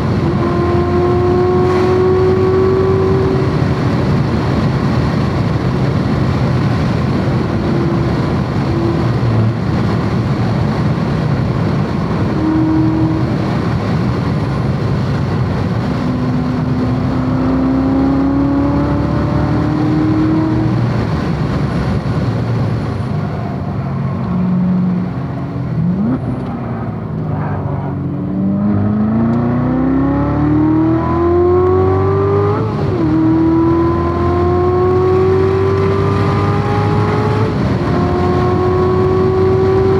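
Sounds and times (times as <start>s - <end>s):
sports car engine at full throttle: 0.0s - 39.9s
wind noise: 0.0s - 39.9s.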